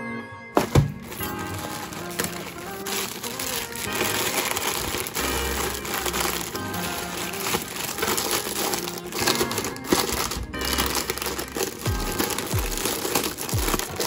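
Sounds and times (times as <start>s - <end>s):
background music: 0.0s - 14.0s
plastic snack bags crinkling: 0.6s - 14.0s.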